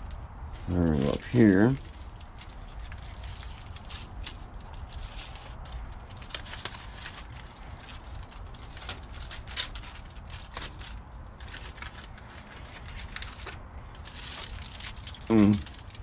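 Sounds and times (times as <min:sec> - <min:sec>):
foil crinkling on grill grate: 0:00.0 - 0:16.0
steady low rumble: 0:00.0 - 0:16.0.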